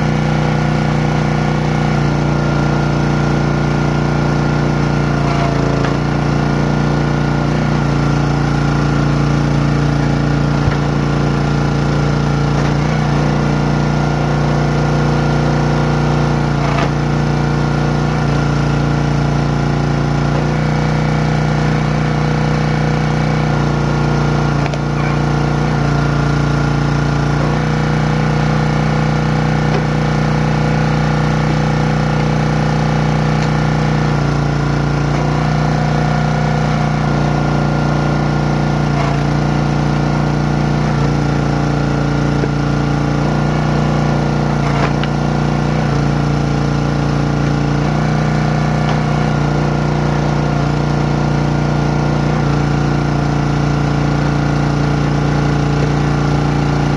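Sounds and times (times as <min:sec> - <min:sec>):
log splitter engine running: 0:00.0 - 0:56.9.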